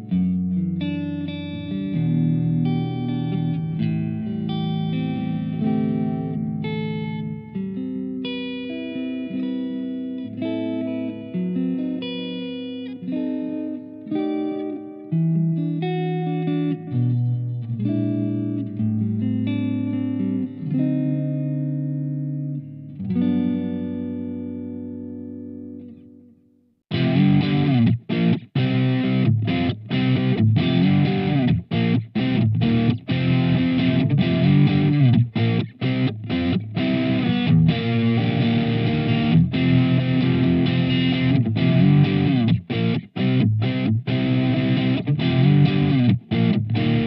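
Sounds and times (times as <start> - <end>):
clean electric guitar: 0.0 - 47.0.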